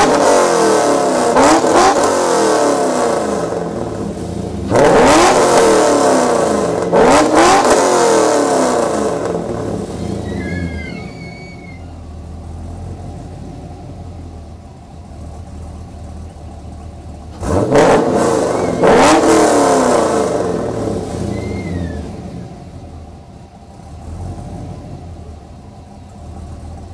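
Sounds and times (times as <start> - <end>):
engine idling and revving: 0.0 - 26.9.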